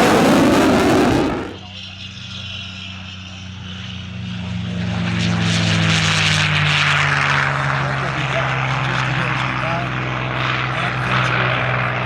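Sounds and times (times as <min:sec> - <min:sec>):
propeller plane droning flyby: 0:00.0 - 0:12.0.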